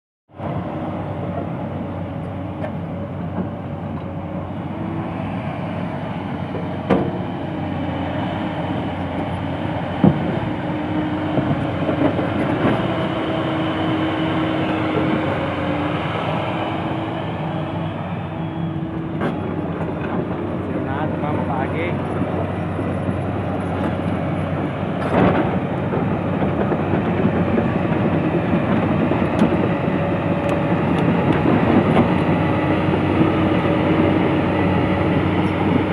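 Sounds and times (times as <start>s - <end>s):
diesel engine under load: 0.3s - 35.9s.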